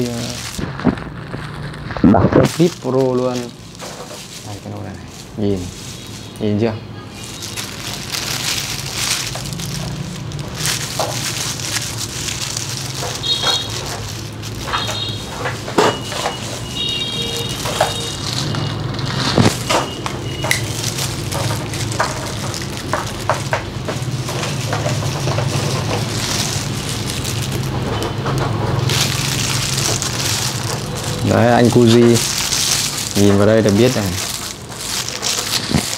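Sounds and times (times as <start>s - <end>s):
wet hair squishing: 0.0s - 6.5s, 7.2s - 35.9s
plastic gloves crinkling: 0.0s - 35.9s.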